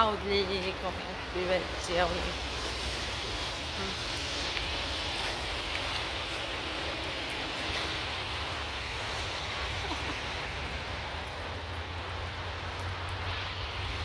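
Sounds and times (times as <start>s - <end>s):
constant low rumble: 0.0s - 14.0s
outdoor background noise: 0.0s - 14.0s.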